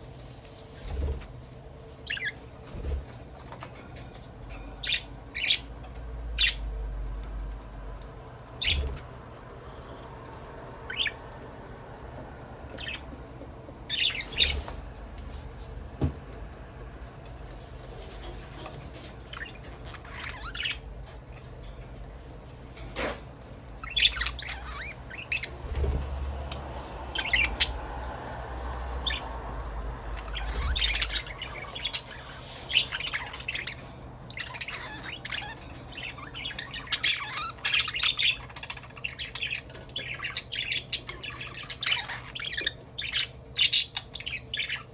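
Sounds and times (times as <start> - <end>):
budgerigars chirping and squawking: 2.0 - 6.8, 8.5 - 11.5, 12.1 - 15.0, 17.4 - 22.0, 22.7 - 44.9.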